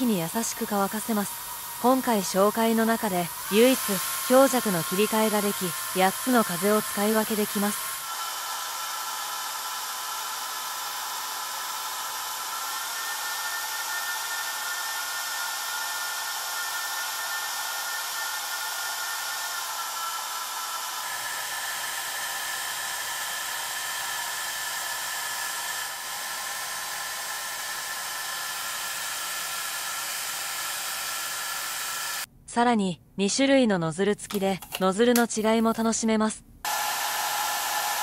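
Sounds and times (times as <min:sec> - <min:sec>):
hair dryer air rush: 0:00.0 - 0:32.3, 0:36.6 - 0:38.0
hair dryer motor whine: 0:00.0 - 0:32.3, 0:36.6 - 0:38.0.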